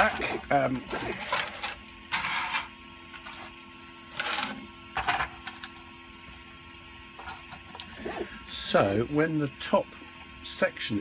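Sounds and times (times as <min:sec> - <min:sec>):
three d printer humming: 0:00.0 - 0:11.0.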